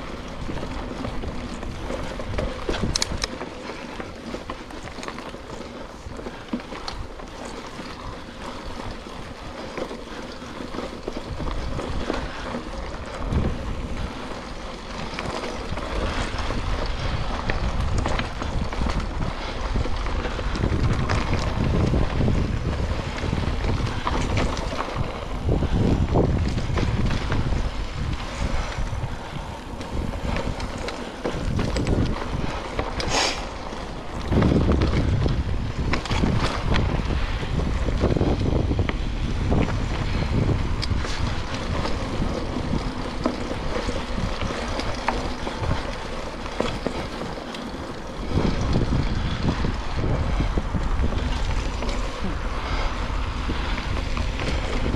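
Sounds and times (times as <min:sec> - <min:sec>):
bike clattering: 0:00.0 - 0:54.9
bike rattling: 0:00.0 - 0:54.9
bike tyres on dirt trail: 0:00.0 - 0:54.9
wind buffeting microphone: 0:00.0 - 0:54.9.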